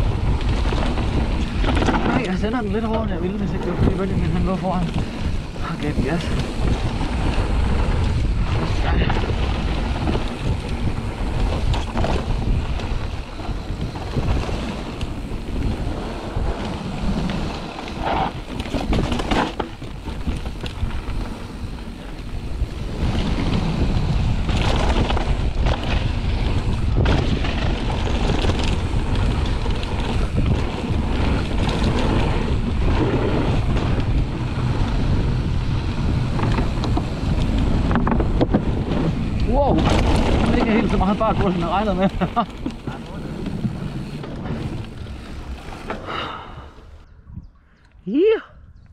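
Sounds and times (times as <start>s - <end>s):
bike knocking and rattling: 0.0s - 46.4s
bike tyres rolling on dirt: 0.0s - 47.1s
wind rushing over microphone: 0.0s - 48.9s.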